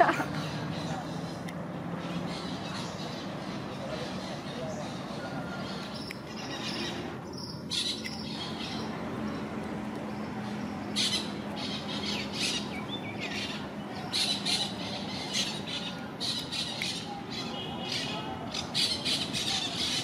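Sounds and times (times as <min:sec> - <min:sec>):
birds squawking and chirping: 0:00.0 - 0:20.0.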